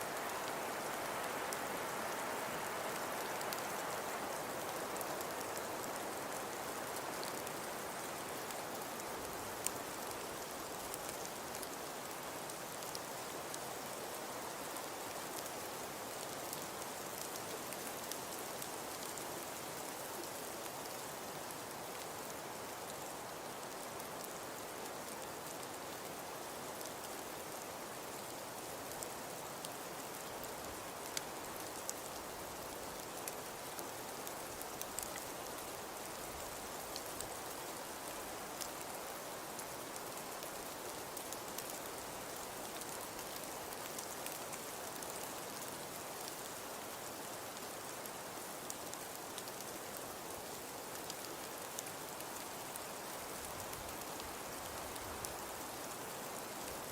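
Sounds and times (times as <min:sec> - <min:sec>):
steady hiss of falling snow: 0:00.0 - 0:56.9.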